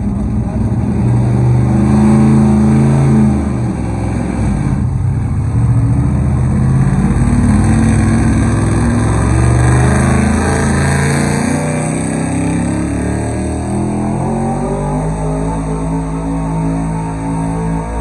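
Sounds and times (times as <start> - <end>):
truck engine running hard: 0.0 - 18.0.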